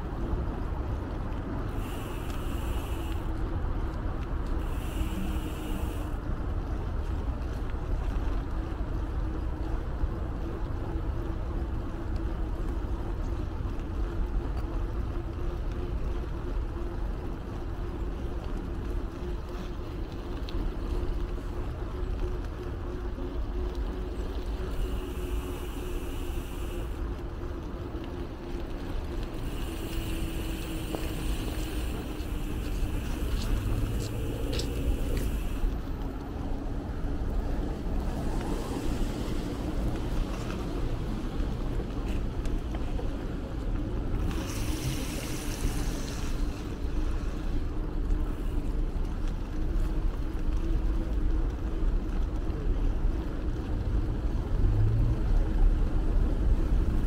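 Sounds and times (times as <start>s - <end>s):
bicycle tyre road noise: 0.0s - 57.0s
faint steady hum: 0.0s - 57.0s
wind rumbling on microphone: 0.0s - 57.0s.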